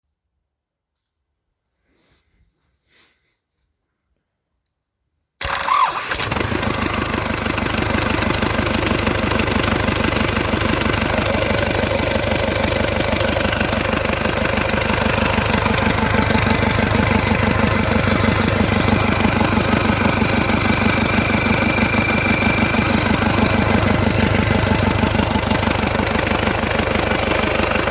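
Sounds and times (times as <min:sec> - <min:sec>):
diesel engine starting and idling: 0:05.4 - 0:27.9.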